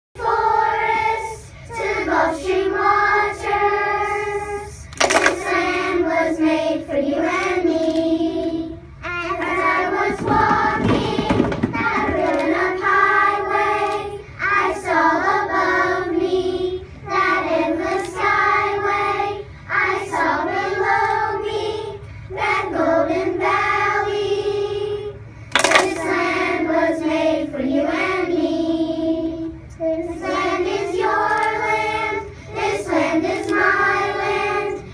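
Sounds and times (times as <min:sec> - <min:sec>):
children singing together: 0:00.2 - 0:34.9.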